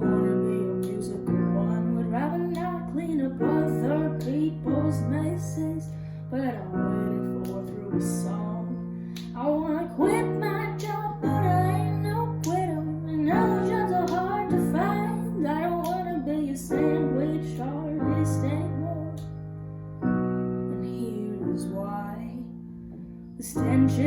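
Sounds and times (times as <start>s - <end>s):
woman singing: 0.0s - 19.3s, 20.6s - 22.6s, 23.4s - 24.0s
piano chords: 0.0s - 24.0s.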